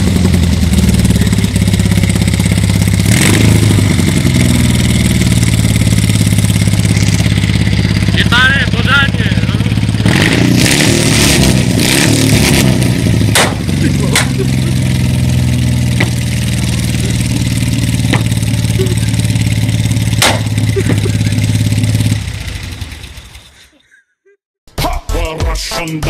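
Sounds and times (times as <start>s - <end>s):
motorcycle engine idling: 0.0s - 10.1s, 12.8s - 23.7s.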